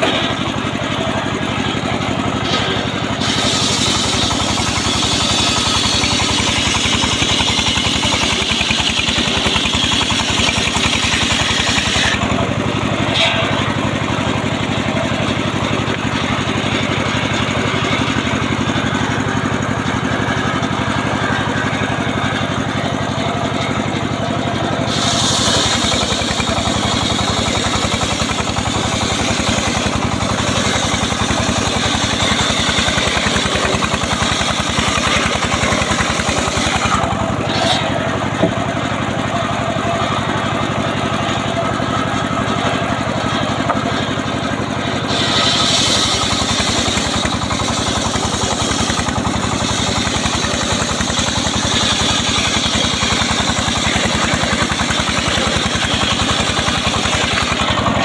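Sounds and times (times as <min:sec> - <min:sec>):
saw blade cutting logs: 0:00.0 - 0:58.0
sawmill engine running: 0:00.0 - 0:58.0.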